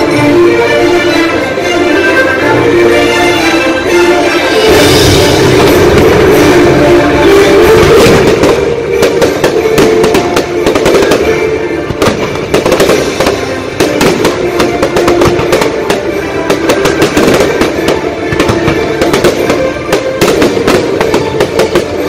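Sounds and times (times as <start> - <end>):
fireworks bangs and crackles: 0.0 - 22.0
show music: 0.0 - 22.0.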